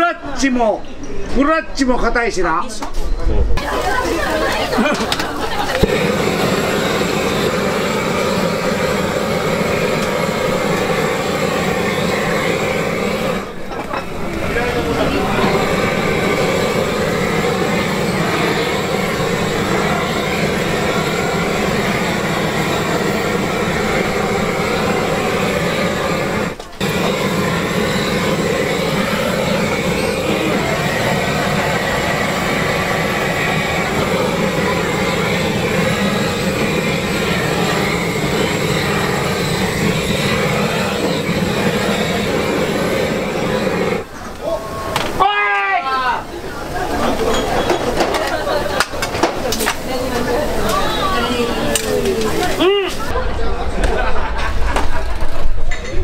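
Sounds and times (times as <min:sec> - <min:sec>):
gas blowtorch burning: 0:03.6 - 0:53.2.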